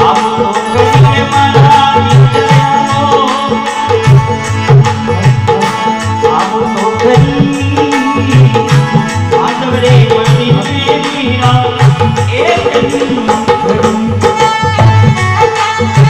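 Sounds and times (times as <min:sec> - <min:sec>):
hand drum rhythm: 0:00.0 - 0:16.0
harmonium notes: 0:00.0 - 0:16.0.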